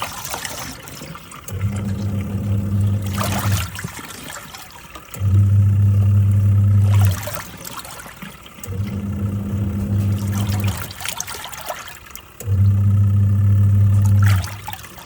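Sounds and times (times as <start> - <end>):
washing machine motor humming: 0.0 - 15.0
water churning and sloshing: 0.0 - 15.0.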